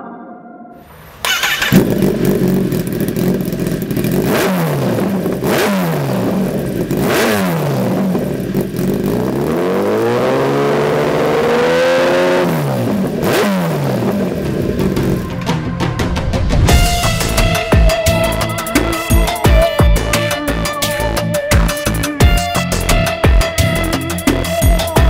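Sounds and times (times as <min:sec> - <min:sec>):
motorcycle engine idling and revving: 0:00.9 - 0:25.0.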